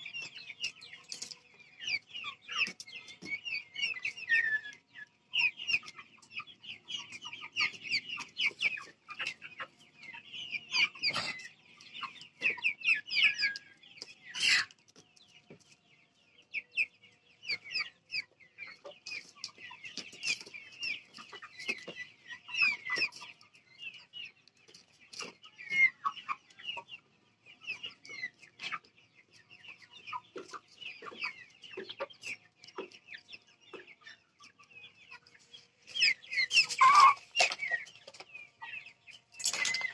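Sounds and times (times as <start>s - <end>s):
chickens clucking and peeping: 0.0s - 39.9s.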